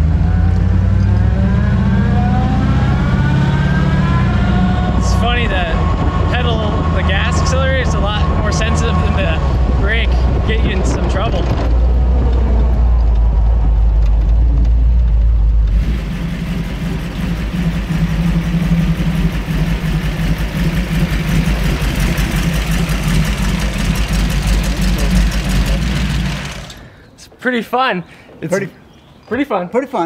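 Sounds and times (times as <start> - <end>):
car engine rumbling and idling: 0.0 - 27.1.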